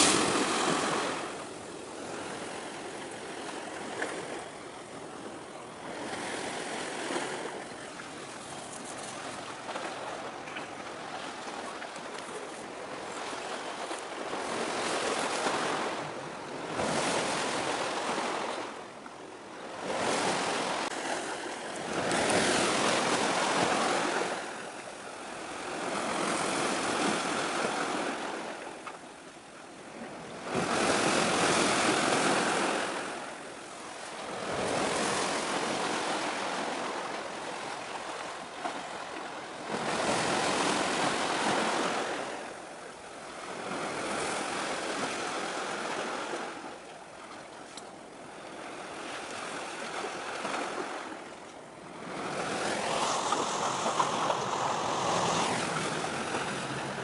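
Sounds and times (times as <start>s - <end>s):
sea waves washing on shore: 0.0s - 57.0s.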